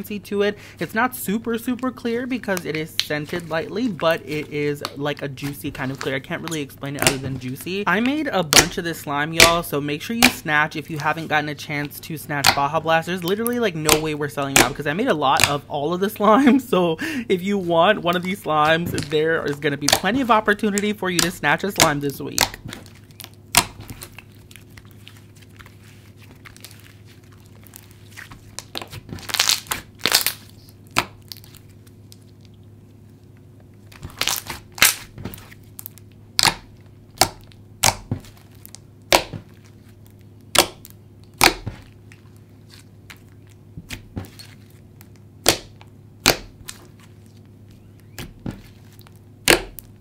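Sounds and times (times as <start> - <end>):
low steady hum: 0.0 - 50.0
hands squishing slime: 0.6 - 32.6, 33.8 - 50.0.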